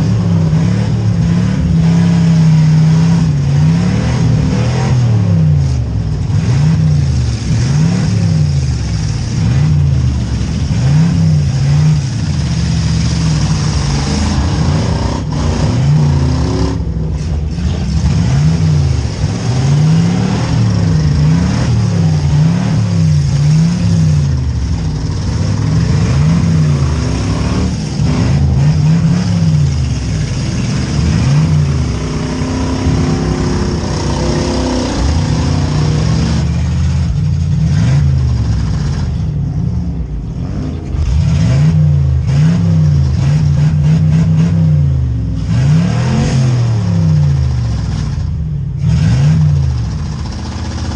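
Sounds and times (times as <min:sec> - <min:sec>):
car engines revving hard: 0:00.0 - 0:50.9
other engines running: 0:00.0 - 0:50.9.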